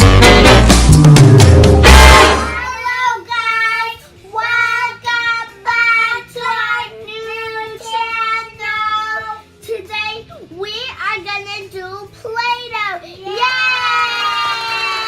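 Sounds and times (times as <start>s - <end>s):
child singing: 2.5s - 15.0s.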